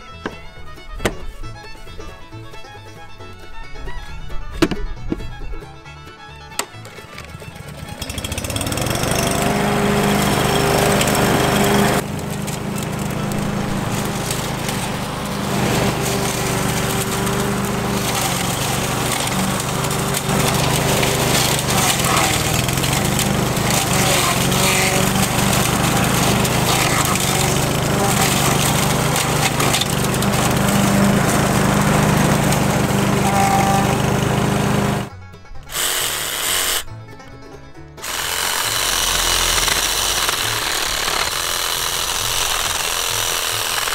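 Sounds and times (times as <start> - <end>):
lawn mower engine running: 6.2 - 37.0, 38.0 - 43.9.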